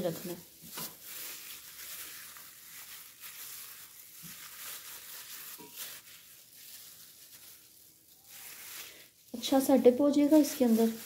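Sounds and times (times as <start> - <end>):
plastic gloves crinkling: 0.0 - 11.0
wet squishing of marinade: 0.0 - 11.0.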